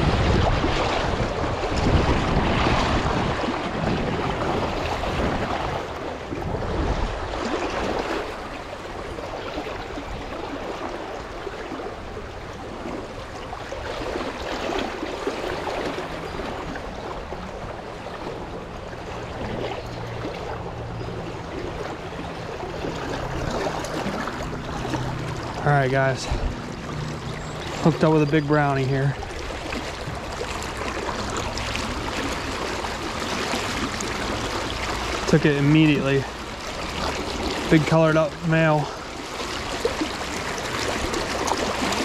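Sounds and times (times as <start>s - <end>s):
wind buffeting microphone: 0.0s - 10.8s, 11.4s - 37.9s
rushing creek water: 0.0s - 42.0s.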